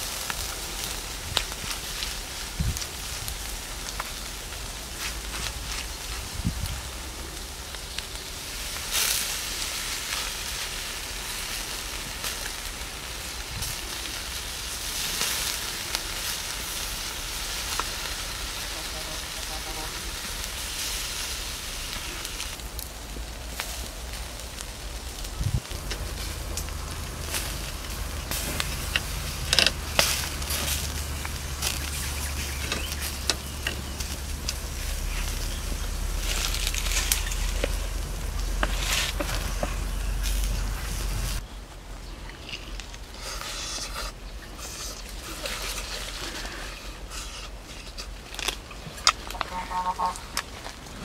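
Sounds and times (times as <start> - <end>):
meat sizzling on a grill: 0.0 - 41.4
fire crackling and popping: 0.0 - 51.0.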